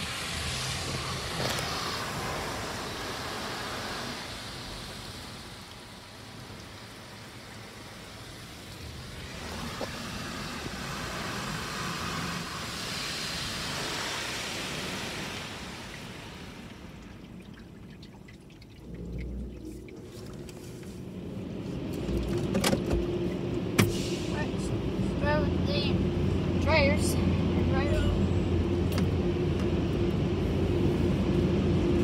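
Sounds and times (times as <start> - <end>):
car wash spraying water: 0.0 - 26.0.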